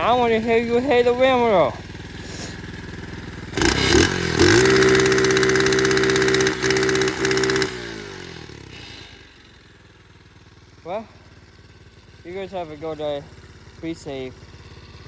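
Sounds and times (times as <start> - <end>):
pit bike engine revving: 0.0 - 15.0.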